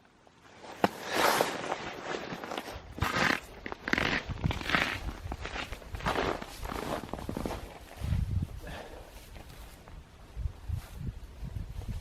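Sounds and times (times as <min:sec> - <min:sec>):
footsteps in snow: 0:00.5 - 0:12.0.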